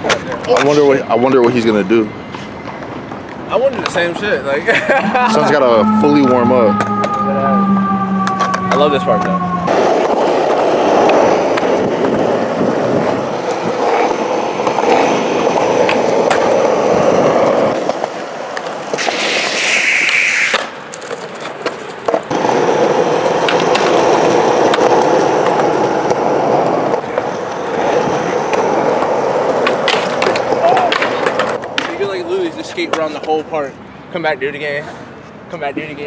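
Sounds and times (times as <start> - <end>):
skateboard wheels rolling on concrete: 0.0 - 5.0, 9.6 - 36.0.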